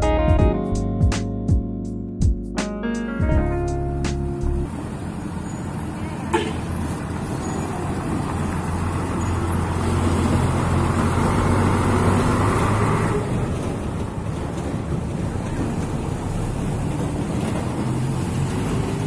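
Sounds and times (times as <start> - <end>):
truck diesel engine droning: 3.4 - 19.0.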